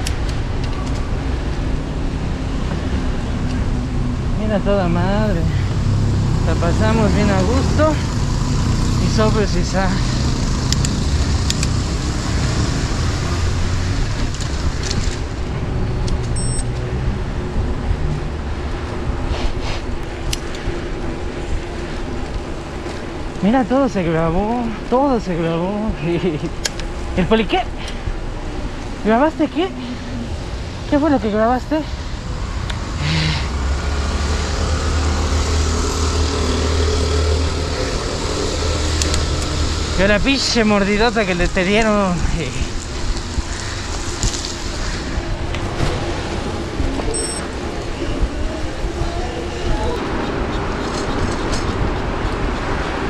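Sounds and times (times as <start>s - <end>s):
road noise hiss: 0.0s - 53.0s
street traffic: 0.0s - 53.0s.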